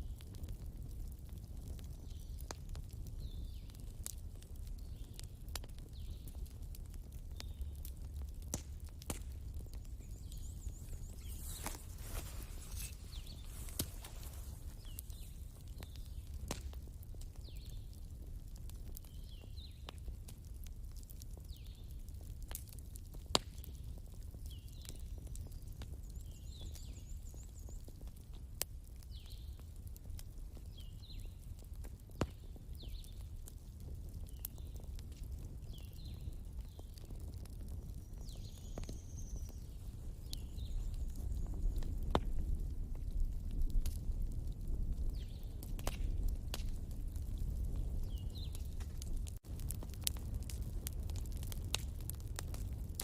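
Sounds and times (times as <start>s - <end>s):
fire crackling pops: 0.0s - 53.0s
wood fire rumbling: 0.0s - 53.0s.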